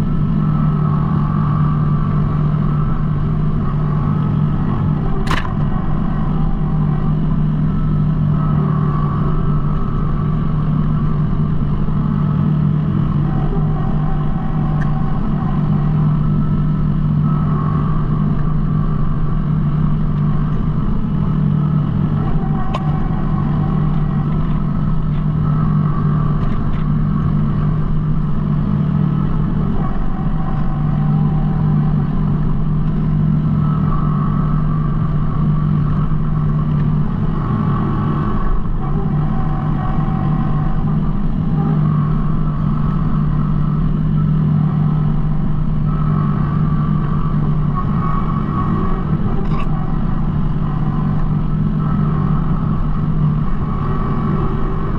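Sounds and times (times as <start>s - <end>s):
engine whine: 0.0s - 54.9s
tractor diesel engine running: 0.0s - 54.9s.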